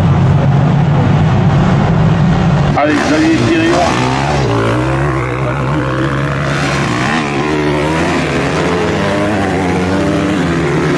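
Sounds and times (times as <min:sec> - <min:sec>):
motorcycle engines revving: 0:00.0 - 0:10.9.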